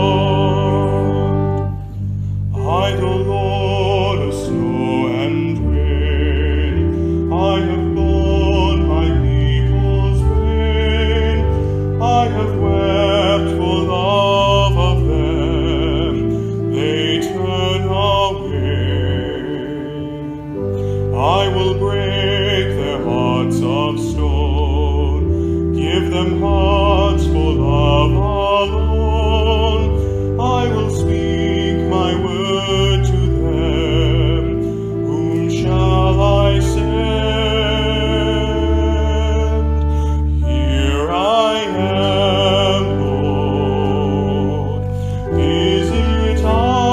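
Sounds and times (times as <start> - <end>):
held accompaniment chords: 0.0 - 46.9
person singing with vibrato: 0.0 - 46.9.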